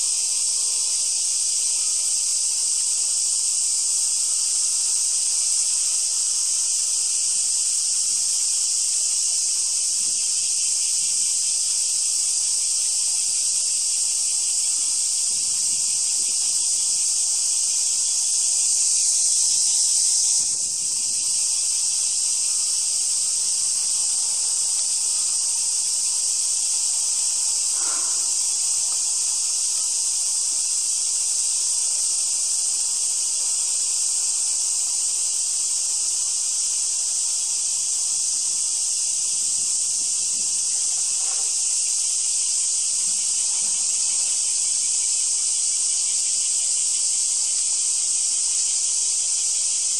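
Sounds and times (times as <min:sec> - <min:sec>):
cicadas chorus: 0:00.0 - 0:49.9.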